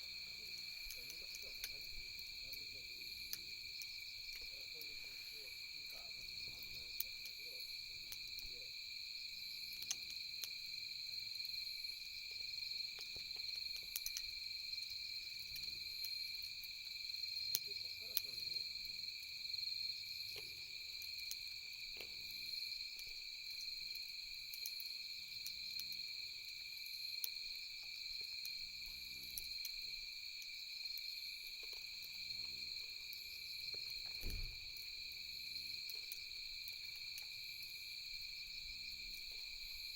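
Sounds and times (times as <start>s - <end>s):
campfire crackling and popping: 0.0s - 39.9s
night insects chirping: 0.0s - 39.9s.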